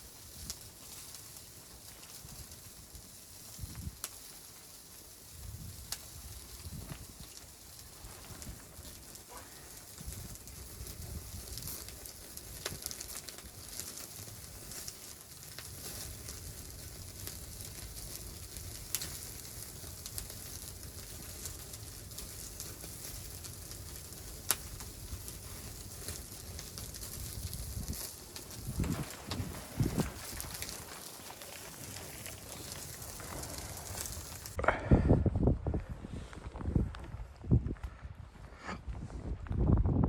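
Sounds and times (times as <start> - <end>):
wood stove sizzling and crackling: 0.0 - 34.6.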